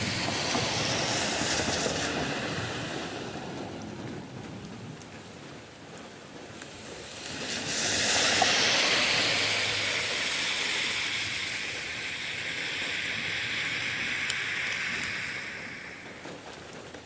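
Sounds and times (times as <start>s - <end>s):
rain rushing hiss: 0.0s - 17.0s.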